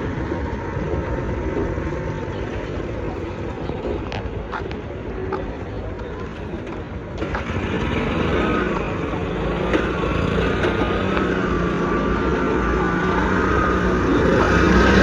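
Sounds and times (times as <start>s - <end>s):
vehicle running with road noise: 0.0s - 15.0s.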